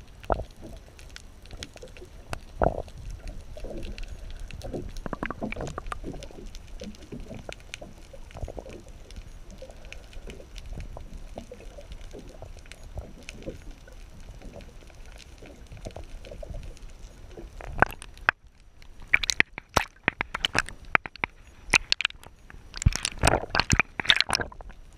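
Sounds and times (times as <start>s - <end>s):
muffled underwater sloshing: 0.0s - 24.9s.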